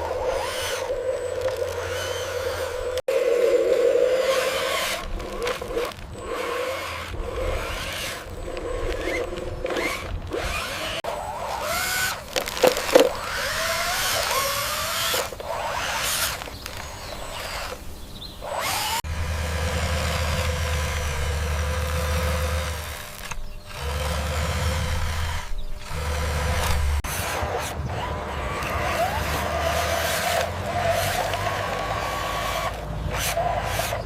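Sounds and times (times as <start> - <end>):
small electric motors whining: 0.0 - 34.0.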